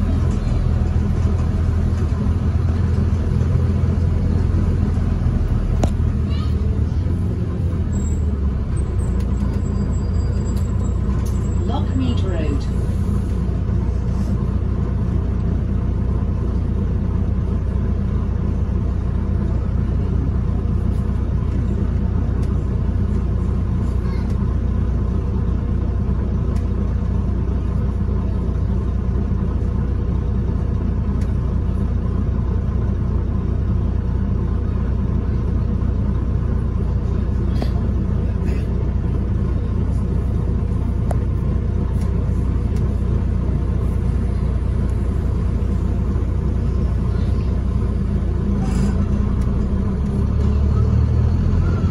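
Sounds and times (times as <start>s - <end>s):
bus engine and road rumble: 0.0s - 51.9s.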